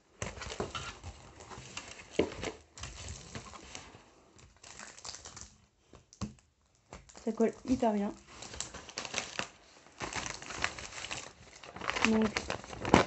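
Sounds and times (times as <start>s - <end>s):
plastic rustling and crinkling: 0.0s - 13.0s.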